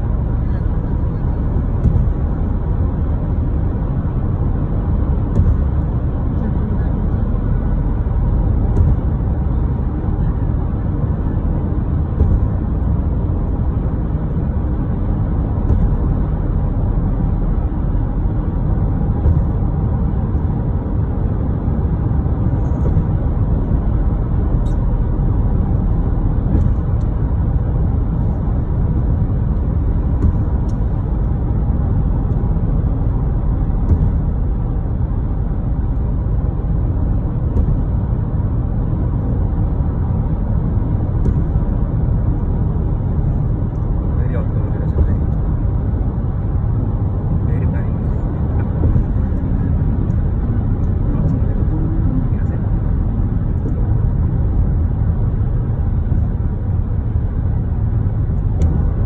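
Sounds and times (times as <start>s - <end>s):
car rumbling at highway speed: 0.0s - 59.0s.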